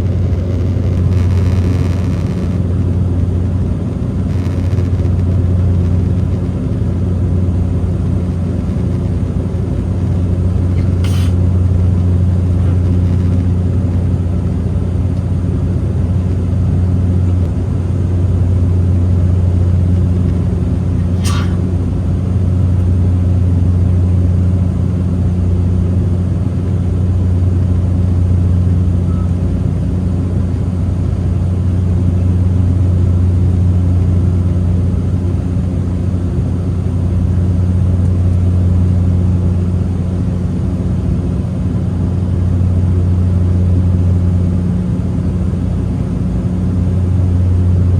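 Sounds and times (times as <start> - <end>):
airliner engine drone in cabin: 0.0 - 47.9.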